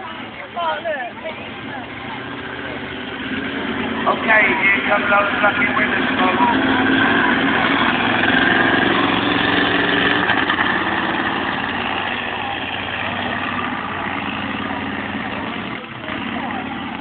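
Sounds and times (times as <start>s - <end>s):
monster truck engine running: 0.0s - 17.0s.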